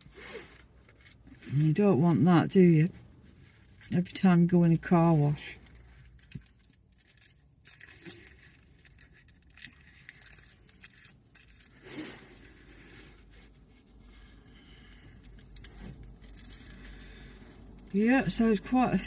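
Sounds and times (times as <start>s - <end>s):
faint clicks and rustles: 0.0s - 19.0s
low steady rumble: 0.0s - 19.0s.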